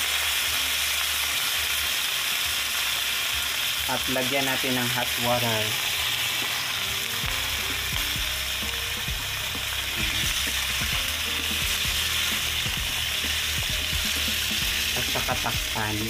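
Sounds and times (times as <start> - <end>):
clams sizzling in a wok: 0.0 - 16.0.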